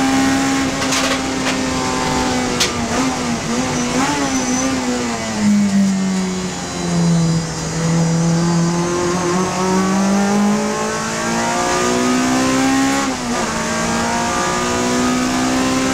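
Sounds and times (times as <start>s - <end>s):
car engine revving under load: 0.0s - 15.9s.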